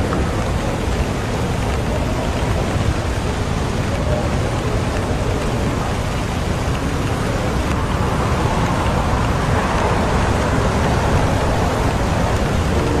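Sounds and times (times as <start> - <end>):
city traffic rumble: 0.0 - 13.0
steady rain: 0.0 - 13.0
vehicle hissing on wet road: 0.0 - 13.0.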